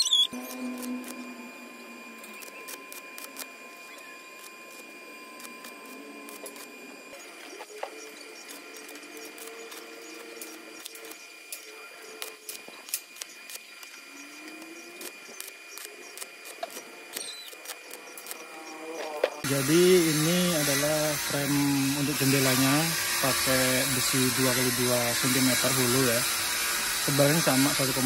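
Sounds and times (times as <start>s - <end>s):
welding arc sizzling and crackling: 0.0s - 28.0s.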